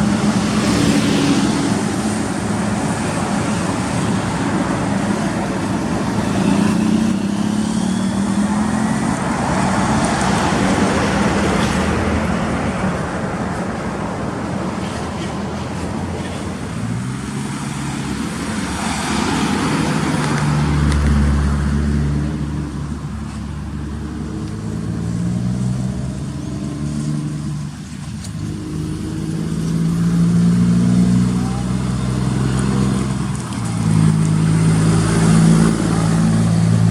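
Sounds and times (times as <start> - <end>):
diesel truck engine pulling hard: 0.0 - 36.9
road noise: 0.0 - 36.9.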